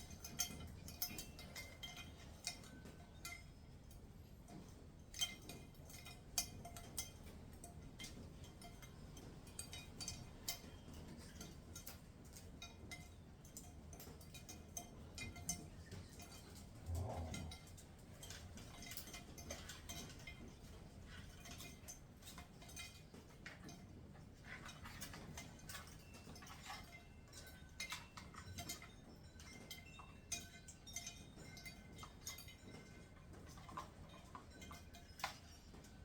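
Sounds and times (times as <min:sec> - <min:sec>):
faint light clicks and clinks: 0:00.0 - 0:36.0.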